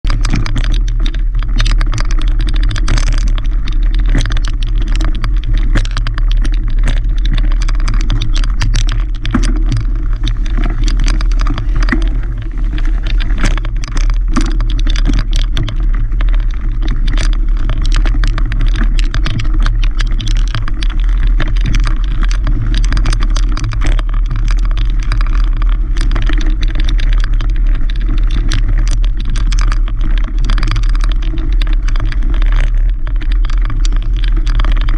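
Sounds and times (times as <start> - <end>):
bike rattling and knocking: 0.0 - 34.9
wind rumble on microphone: 0.0 - 34.9.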